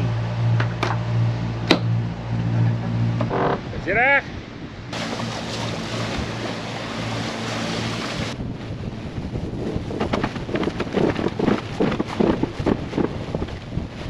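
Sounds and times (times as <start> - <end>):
water and wind rushing: 0.0 - 14.0
wind buffeting microphone: 0.0 - 14.0.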